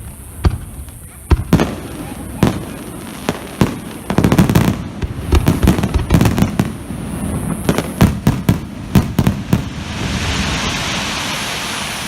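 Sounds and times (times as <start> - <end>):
fireworks bangs: 0.0 - 12.0
steady rushing hiss: 0.0 - 12.0.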